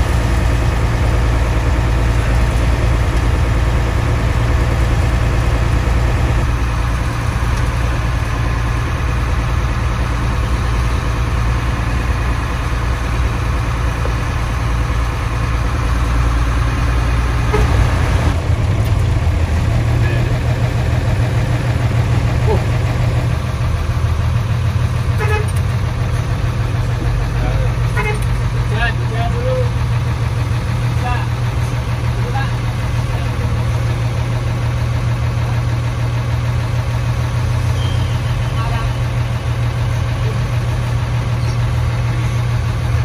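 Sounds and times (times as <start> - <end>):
bus engine droning: 0.0 - 43.0.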